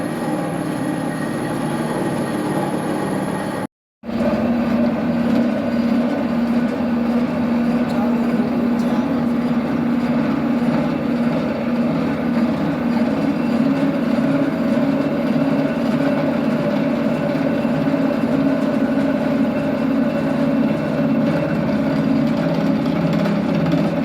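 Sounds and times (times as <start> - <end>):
milling machine running: 0.0 - 24.0.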